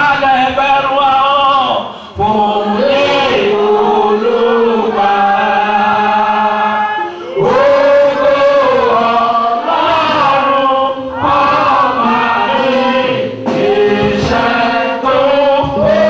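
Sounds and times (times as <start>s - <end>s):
men singing church song: 0.0s - 16.0s.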